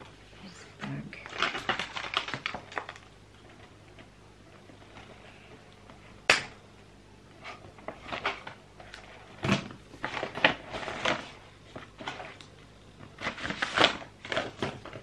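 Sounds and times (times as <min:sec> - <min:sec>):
paper label rustling and crinkling: 0:00.8 - 0:06.0, 0:07.4 - 0:15.0.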